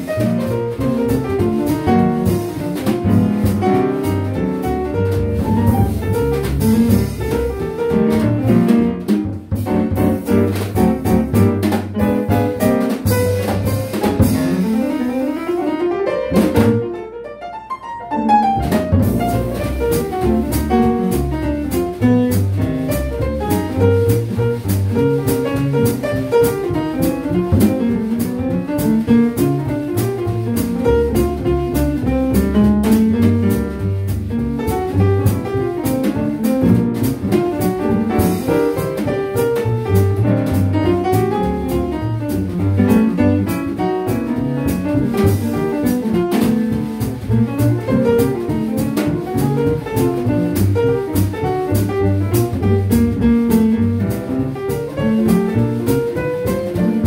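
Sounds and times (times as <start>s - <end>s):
drum kit with cymbals: 0.0s - 16.9s, 18.3s - 57.0s
plucked double bass: 0.0s - 17.0s, 18.1s - 57.0s
piano: 0.0s - 57.0s.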